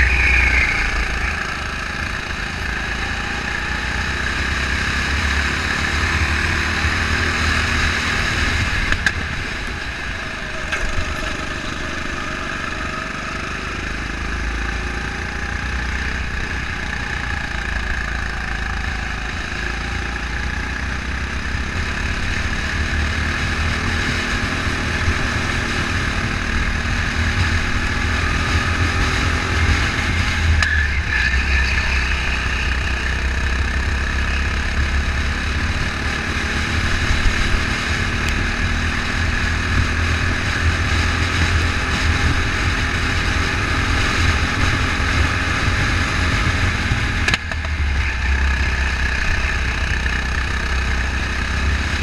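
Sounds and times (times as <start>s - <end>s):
go-kart engine: 0.0s - 52.0s.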